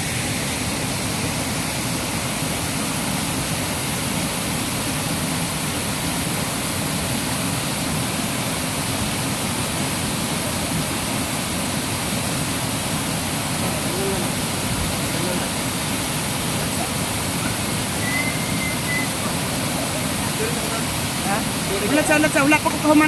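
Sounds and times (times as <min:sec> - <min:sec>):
waterfall rushing into pool: 0:00.0 - 0:23.0.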